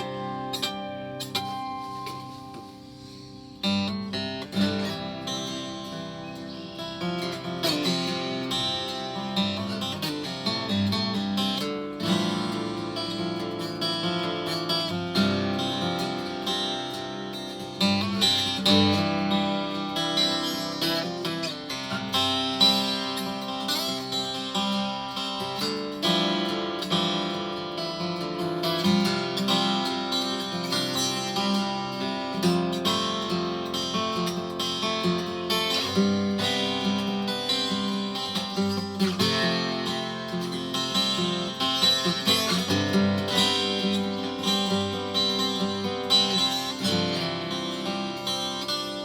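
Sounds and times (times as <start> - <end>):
twelve-string acoustic guitar: 0.0 - 49.0.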